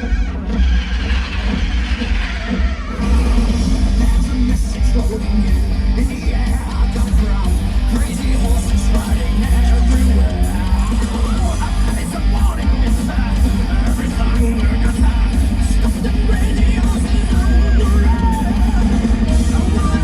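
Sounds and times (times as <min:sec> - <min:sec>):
rock music over loudspeakers: 0:00.0 - 0:20.0.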